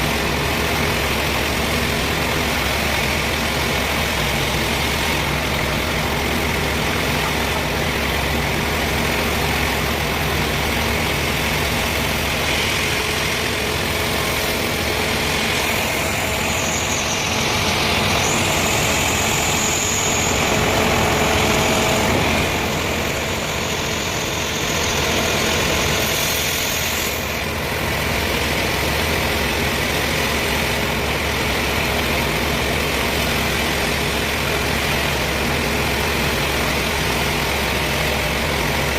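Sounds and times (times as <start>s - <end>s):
high whine: 0.0s - 38.9s
sawmill engine running: 0.0s - 38.9s.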